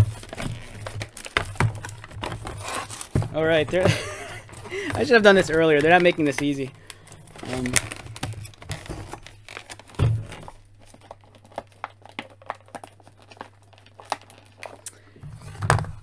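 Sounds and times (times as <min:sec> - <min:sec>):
scissors cutting packaging: 0:00.0 - 0:03.2, 0:03.8 - 0:15.0
packaging crinkling: 0:00.0 - 0:16.0.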